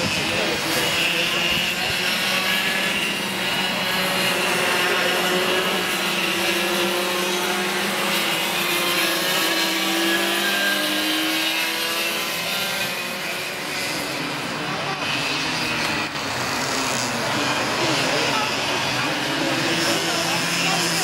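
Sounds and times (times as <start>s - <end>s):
go-kart engines racing: 0.0s - 21.0s.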